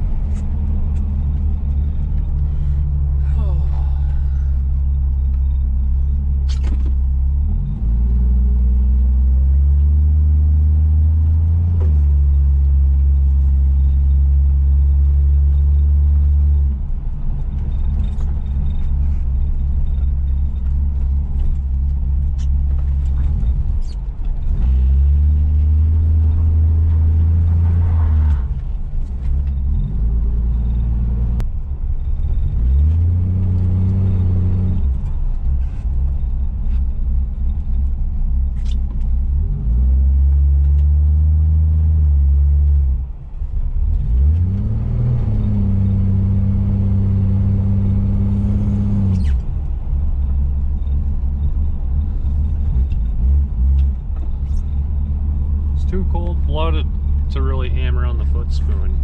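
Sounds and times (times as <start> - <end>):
car engine revving: 0.0 - 36.8, 43.8 - 59.0.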